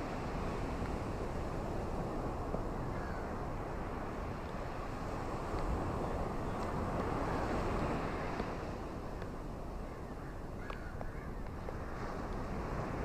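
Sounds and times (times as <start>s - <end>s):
ocean waves washing onto beach: 0.0s - 13.0s.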